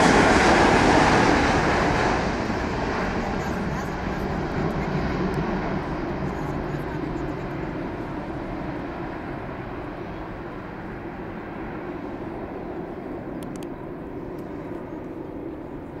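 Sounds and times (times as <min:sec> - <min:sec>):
jet engine rumbling: 0:00.0 - 0:16.0.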